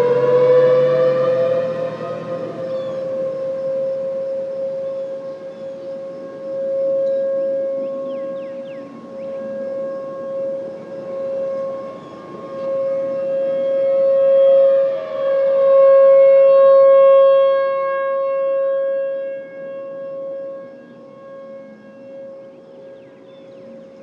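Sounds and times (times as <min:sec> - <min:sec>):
distant warning sirens: 0:00.0 - 0:24.0
siren pitch gliding down: 0:00.0 - 0:24.0.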